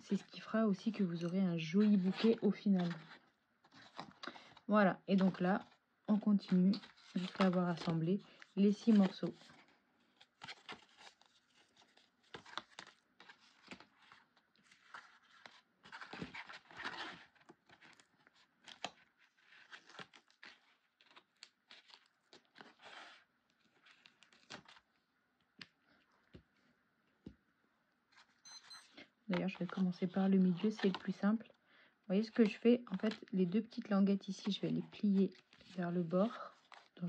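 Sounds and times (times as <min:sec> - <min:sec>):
cardstock rustling and crinkling: 0:00.0 - 0:26.6, 0:29.3 - 0:31.5, 0:32.2 - 0:37.0.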